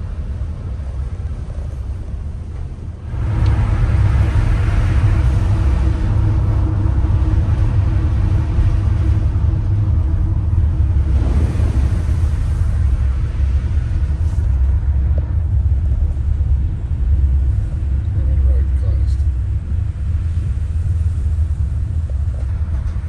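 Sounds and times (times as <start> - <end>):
vehicle driving rumble: 0.0 - 23.0
rushing noise: 1.2 - 23.0.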